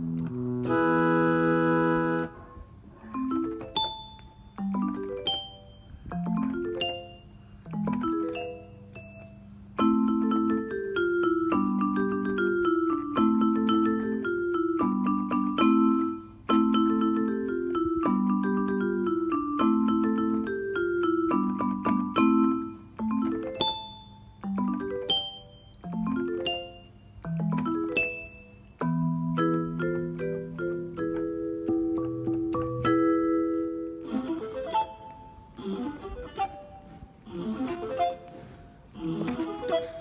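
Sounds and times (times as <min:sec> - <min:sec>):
electronic keyboard melody: 0:00.0 - 0:40.0.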